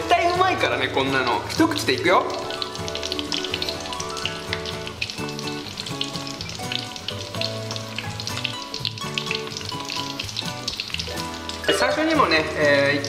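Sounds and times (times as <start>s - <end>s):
background music: 0.0s - 13.0s
food deep-frying in oil: 0.0s - 13.0s.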